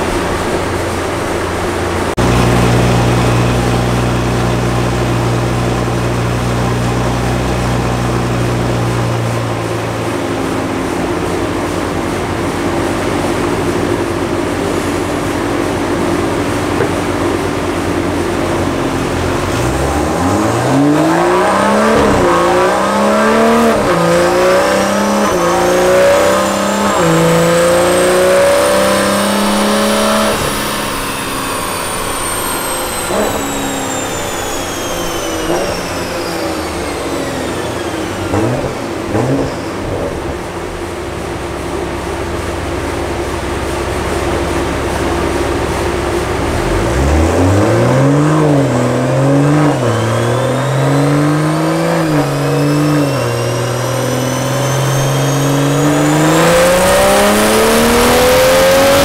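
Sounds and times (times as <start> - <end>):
car engine revving: 0.0 - 59.0
high whine: 0.0 - 59.0.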